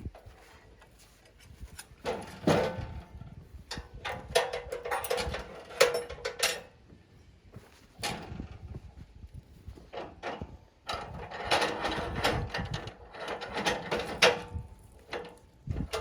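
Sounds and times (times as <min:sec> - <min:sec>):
metal clanks and rattles: 0:00.1 - 0:06.8, 0:07.9 - 0:08.9, 0:09.7 - 0:16.0.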